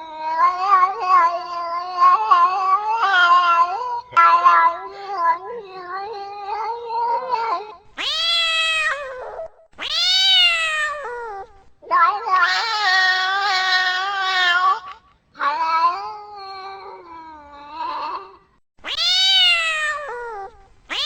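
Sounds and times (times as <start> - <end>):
cat meowing: 0.0 - 21.0.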